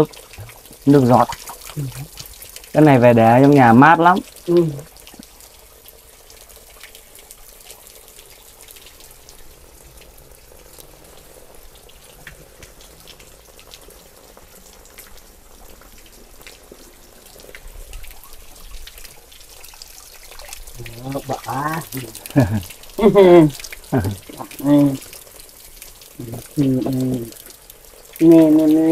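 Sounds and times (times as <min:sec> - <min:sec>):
water trickling and splashing: 0:00.0 - 0:28.9.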